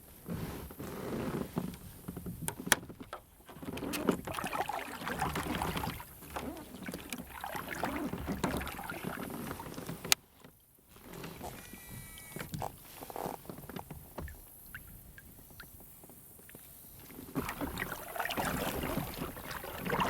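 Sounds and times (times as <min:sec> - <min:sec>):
paddle splashing through water: 0:00.0 - 0:20.0.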